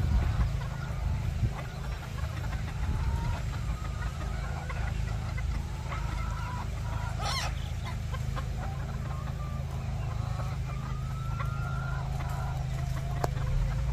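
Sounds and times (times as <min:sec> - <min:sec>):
chickens clucking and calling: 0:00.0 - 0:13.9
steady low hum: 0:00.0 - 0:13.9.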